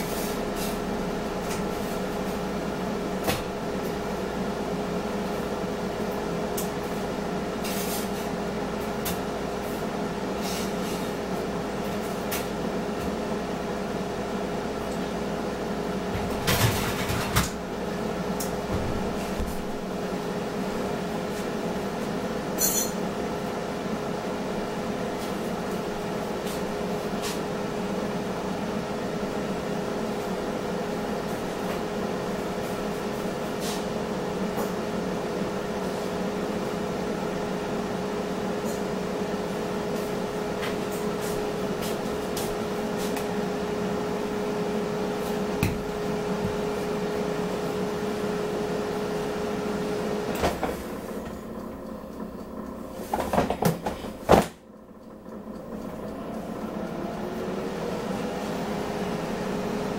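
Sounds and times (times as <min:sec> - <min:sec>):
appliance fan motor humming: 0:00.0 - 0:59.9.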